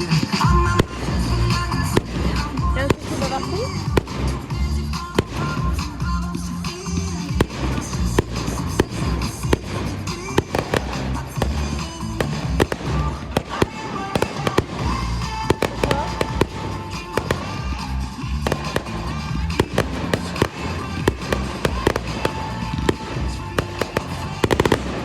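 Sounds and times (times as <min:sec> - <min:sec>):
fireworks bangs and crackles: 0:00.0 - 0:25.0
loud music from sound system: 0:00.0 - 0:25.0.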